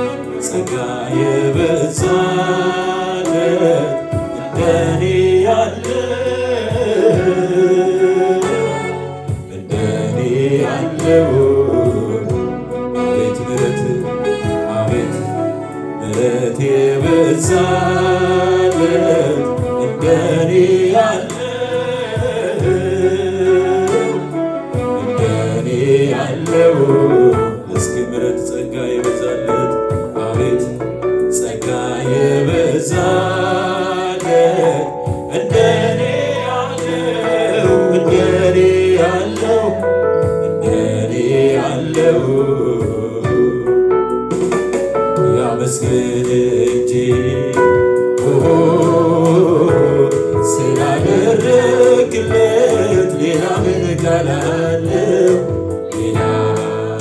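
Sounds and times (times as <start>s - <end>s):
man singing into microphone: 0.0s - 43.8s, 45.2s - 57.0s
musical accompaniment: 0.0s - 57.0s.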